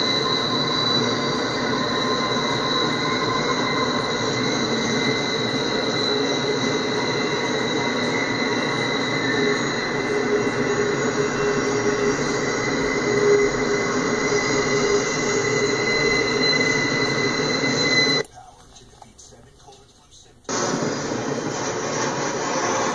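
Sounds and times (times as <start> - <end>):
train wheels squealing: 0.0 - 18.3, 21.0 - 22.9
rumble of train wheels: 0.0 - 22.9.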